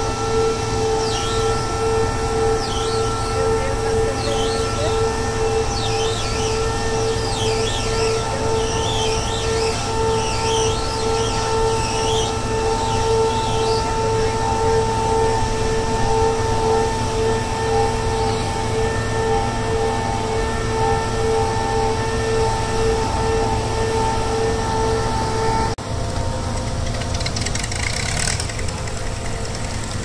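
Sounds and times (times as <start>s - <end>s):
wavering high squeal: 0.0s - 25.8s
piling rig drone: 0.0s - 30.0s.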